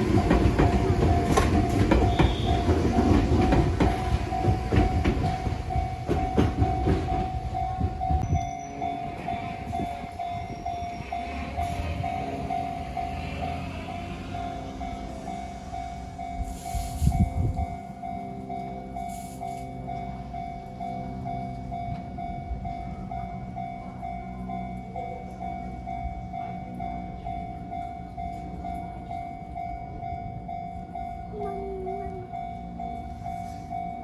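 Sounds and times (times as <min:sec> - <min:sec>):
electric train rumble: 0:00.0 - 0:34.0
level-crossing alarm bell ringing: 0:00.0 - 0:34.0.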